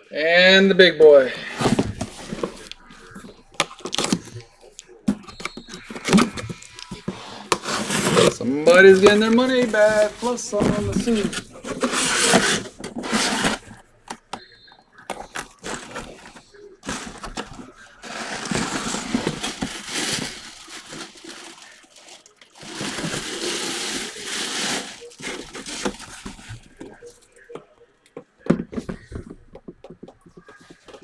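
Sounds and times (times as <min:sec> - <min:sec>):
packaging rustling and crinkling: 0:01.4 - 0:14.3, 0:15.0 - 0:27.1.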